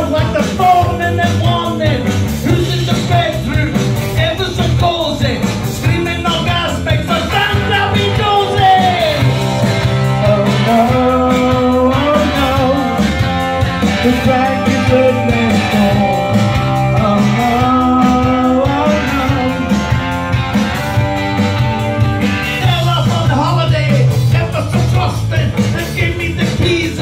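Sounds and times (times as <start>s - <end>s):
man singing into microphone: 0.0s - 9.3s, 10.2s - 13.1s, 14.0s - 19.7s, 22.5s - 27.0s
electric guitar strummed: 0.0s - 27.0s.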